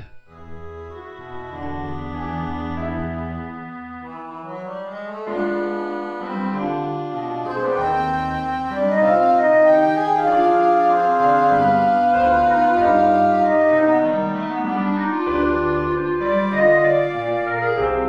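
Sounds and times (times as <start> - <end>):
organ-like keyboard chords: 0.0 - 18.0.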